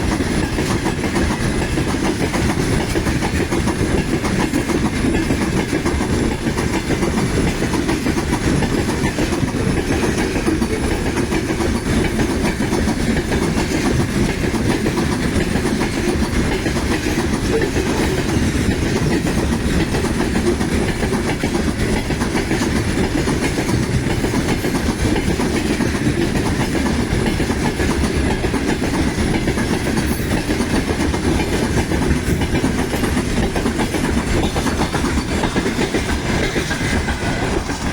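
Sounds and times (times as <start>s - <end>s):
freight train wheels clattering: 0.0s - 37.9s.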